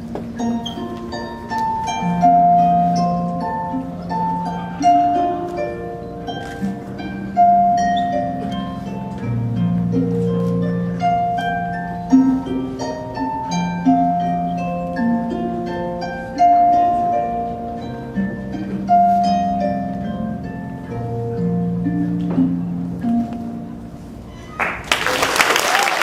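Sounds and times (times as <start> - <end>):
plucked string melody: 0.0 - 24.6.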